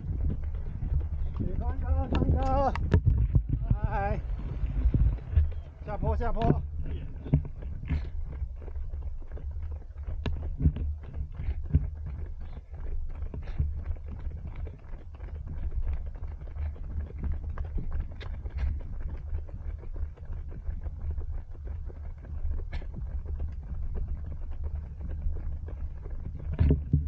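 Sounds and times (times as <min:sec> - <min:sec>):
running footsteps: 0:00.0 - 0:27.0
wind rumble: 0:00.0 - 0:27.0.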